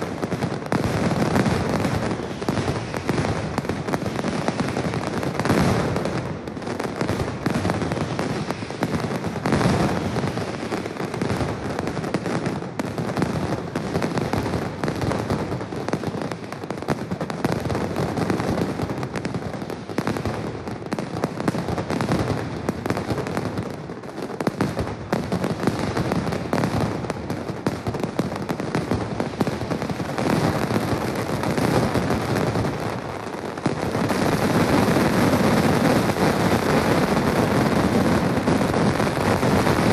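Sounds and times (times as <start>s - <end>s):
firecrackers banging: 0.0s - 39.9s.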